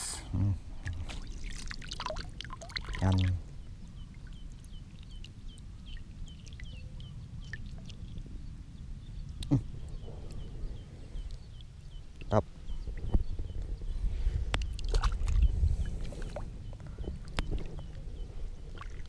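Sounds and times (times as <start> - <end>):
wind rumble on microphone: 3.0 - 19.0.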